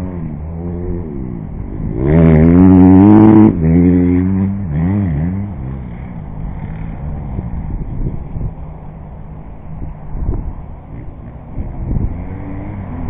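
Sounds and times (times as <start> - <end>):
dirt bike engine revving: 0.0 - 8.5, 10.9 - 13.0.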